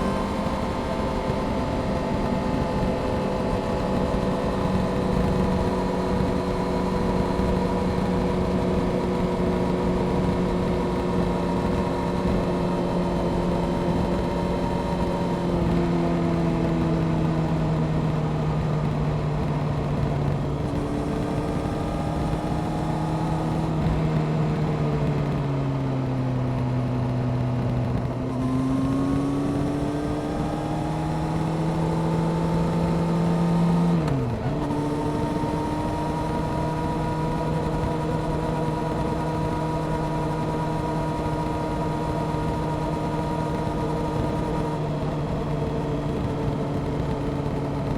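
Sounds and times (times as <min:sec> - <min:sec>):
motorcycle engine revving: 0:00.0 - 0:47.9
wind noise: 0:00.0 - 0:47.9.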